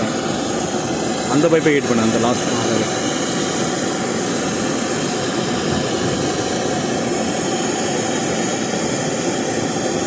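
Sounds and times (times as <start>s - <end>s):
torch flame hissing: 0.0s - 10.0s.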